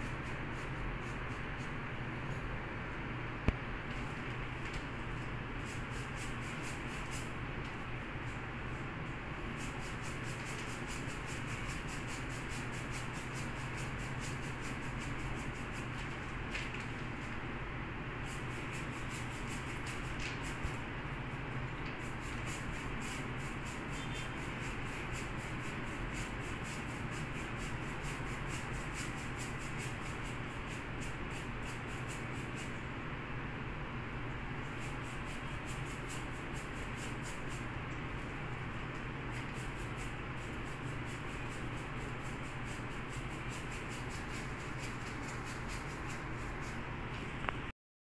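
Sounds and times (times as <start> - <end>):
steady low hum: 0.0 - 47.7.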